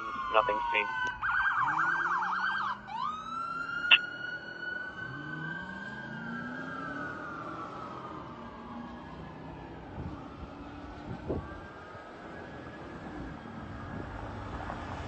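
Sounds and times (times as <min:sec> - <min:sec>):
fire engine siren: 0:00.0 - 0:15.0.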